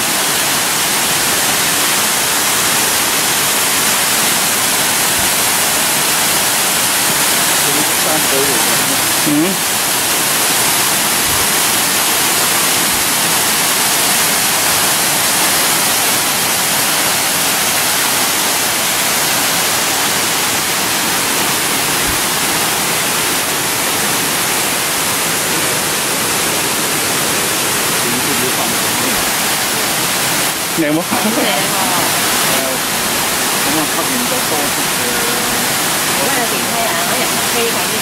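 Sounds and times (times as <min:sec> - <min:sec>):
waterfall rushing over rock: 0:00.0 - 0:38.0.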